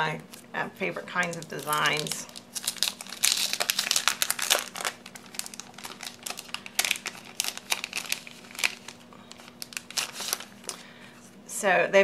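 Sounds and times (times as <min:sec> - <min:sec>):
plastic sleeve crinkling: 0:00.3 - 0:11.4.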